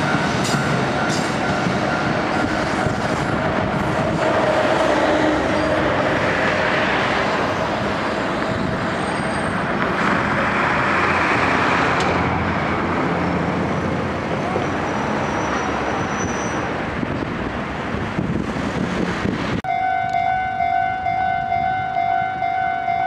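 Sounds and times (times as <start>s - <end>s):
diesel train rumbling on rails: 0.0s - 23.0s.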